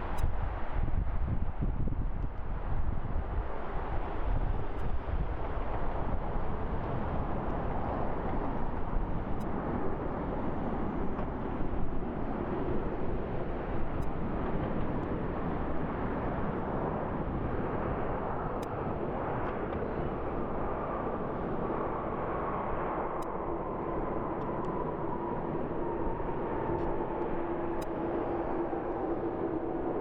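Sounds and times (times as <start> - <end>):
jet engines rushing: 4.9 - 30.0.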